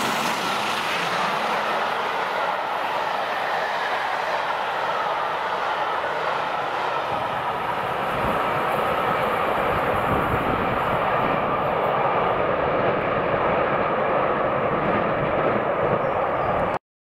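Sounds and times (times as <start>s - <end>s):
train passing at speed: 0.0s - 16.8s.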